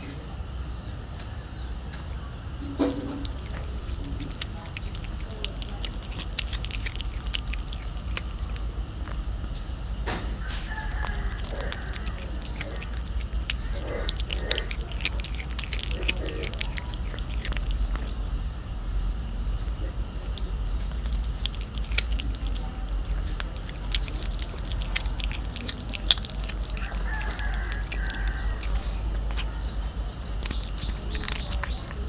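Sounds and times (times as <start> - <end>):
steady low hum: 0.0 - 32.0
cat chewing: 2.7 - 32.0.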